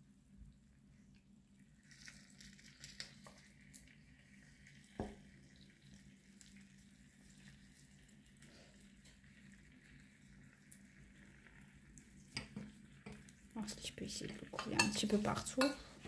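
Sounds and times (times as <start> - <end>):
caramel trickling and ticking: 0.3 - 15.8.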